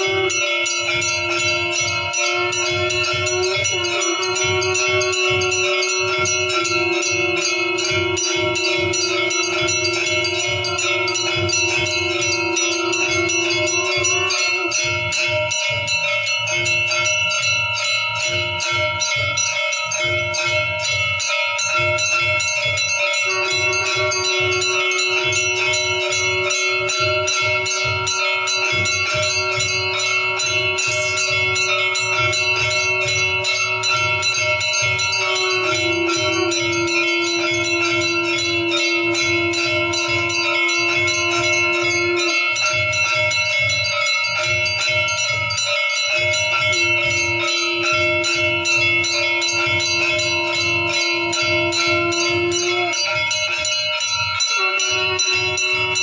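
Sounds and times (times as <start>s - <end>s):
drum beating fast: 0.0s - 53.7s
bells clanging rapidly: 0.0s - 56.0s
steady held tone: 0.0s - 56.0s.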